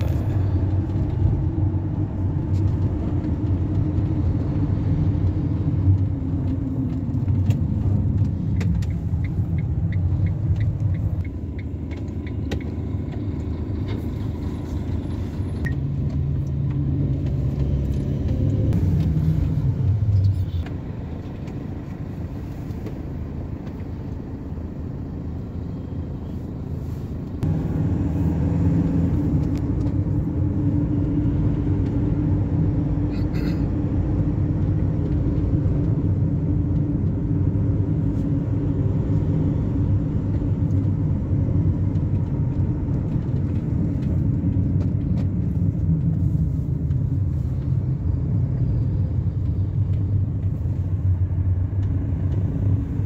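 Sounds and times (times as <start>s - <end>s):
car engine hum: 0.0s - 53.0s.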